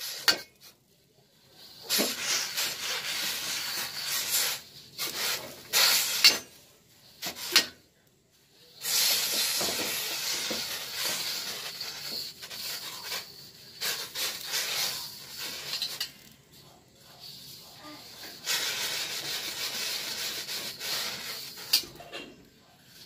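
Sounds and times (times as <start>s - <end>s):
steel scrubber scraping wok in water: 0.0s - 0.7s, 1.6s - 7.8s, 8.8s - 16.3s, 17.2s - 22.0s.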